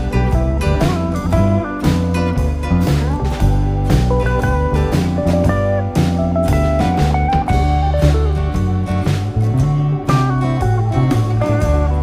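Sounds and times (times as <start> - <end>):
guitar-led music with beat: 0.0 - 12.0.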